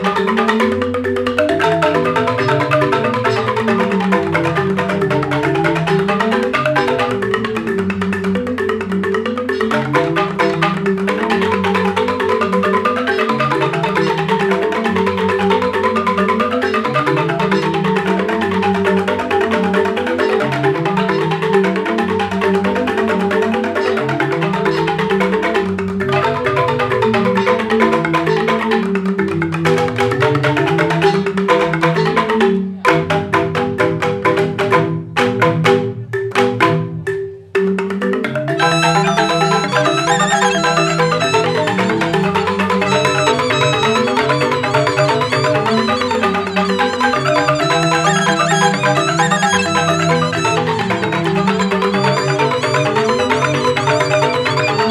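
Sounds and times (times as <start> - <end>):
bamboo xylophone ensemble playing: 0.0 - 54.9.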